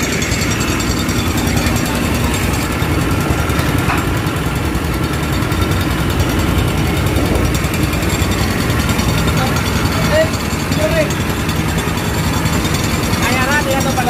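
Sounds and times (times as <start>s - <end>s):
diesel engine running under load: 0.0s - 14.0s
water jet rushing: 0.0s - 14.0s.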